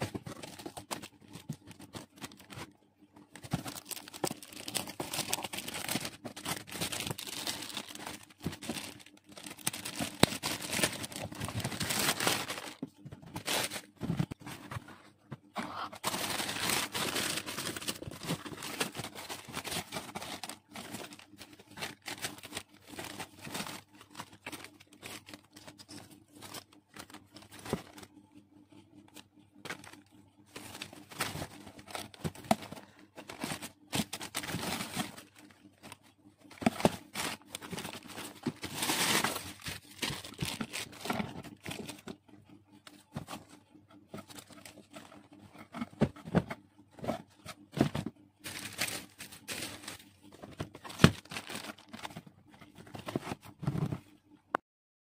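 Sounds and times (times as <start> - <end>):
tissue paper rustling and crinkling: 0.0 - 2.7, 3.4 - 28.0, 29.7 - 42.0, 44.1 - 46.5, 47.2 - 54.0.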